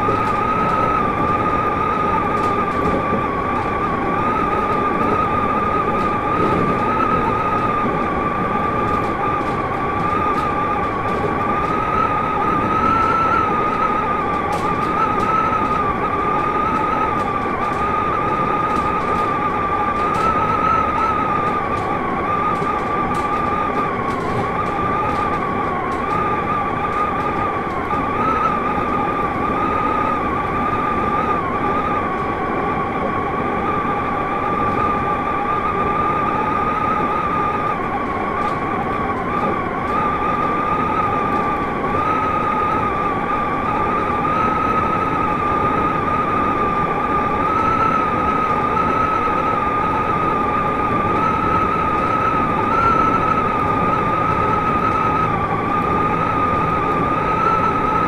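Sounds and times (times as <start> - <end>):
electric train whine: 0.0 - 58.0
train running gear rumble: 0.0 - 58.0.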